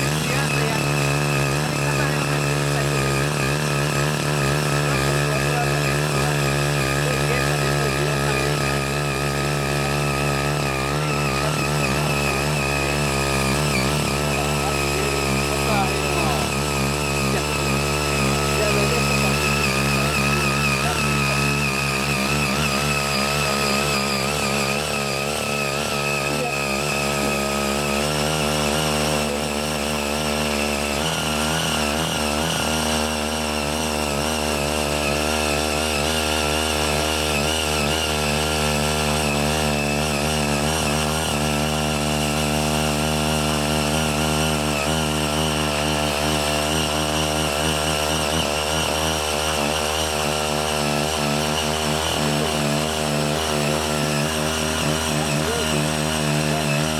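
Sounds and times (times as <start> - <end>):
cultivator engine running: 0.0 - 56.9
tines churning hard soil: 0.0 - 56.9.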